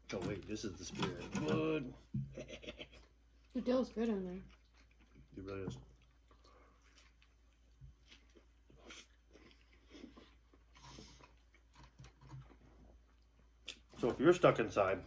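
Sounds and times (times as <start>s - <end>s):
faint chewing and mouth noises: 0.0s - 15.0s.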